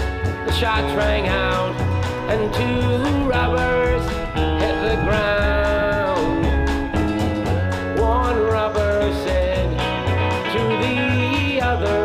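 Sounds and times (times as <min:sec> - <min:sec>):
song with singer over beat: 0:00.5 - 0:12.0.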